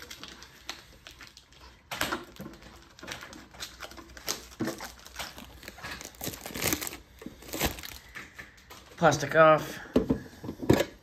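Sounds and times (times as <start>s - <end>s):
plastic wrap crinkling: 0.0s - 9.3s.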